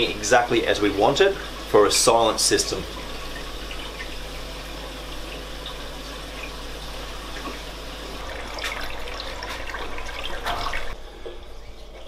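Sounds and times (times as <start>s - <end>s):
drain gurgling: 0.0s - 12.0s
low steady hum: 0.0s - 12.0s
water running down a drain: 0.0s - 12.0s.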